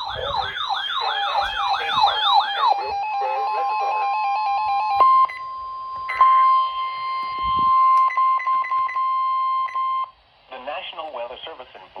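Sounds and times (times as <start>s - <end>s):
loud steady alarm beep: 0.0s - 10.2s
lower pulsing beep: 0.0s - 10.2s.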